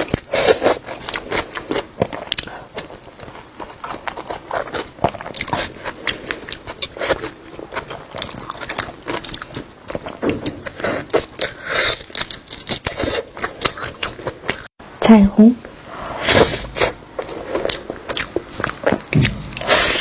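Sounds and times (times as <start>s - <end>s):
person chewing wetly: 0.0s - 14.7s, 16.2s - 20.0s.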